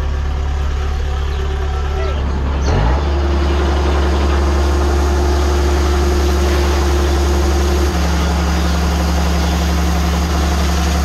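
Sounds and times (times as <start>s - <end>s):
harvesting machinery engine humming: 0.0s - 11.0s.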